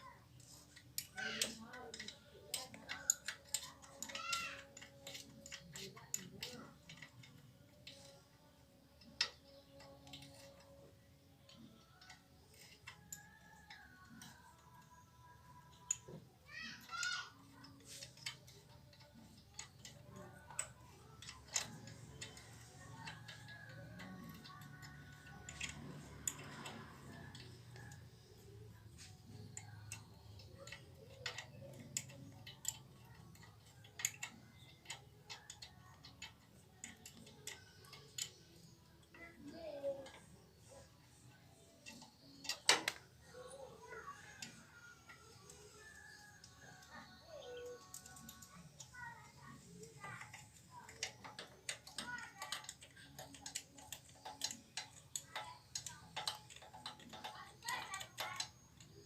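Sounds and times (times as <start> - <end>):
faint clicks and taps: 0.0 - 59.0.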